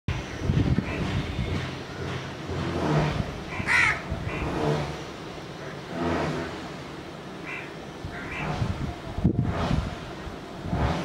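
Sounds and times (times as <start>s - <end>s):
traffic noise: 0.1s - 11.0s
vehicle engine accelerating: 0.9s - 7.1s, 8.3s - 11.0s.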